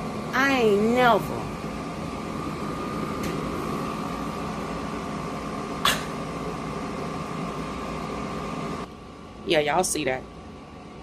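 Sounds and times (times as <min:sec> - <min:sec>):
air conditioner fan whir: 0:00.0 - 0:11.0.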